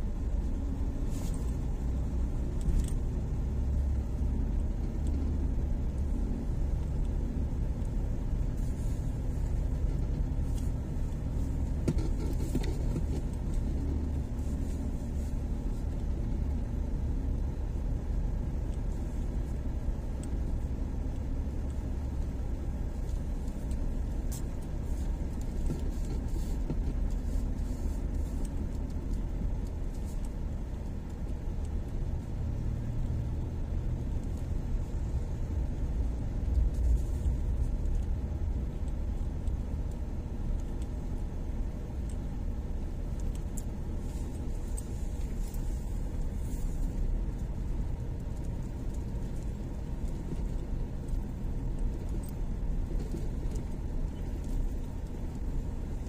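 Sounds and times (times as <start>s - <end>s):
truck engine and tyres rumbling: 0.0s - 56.0s.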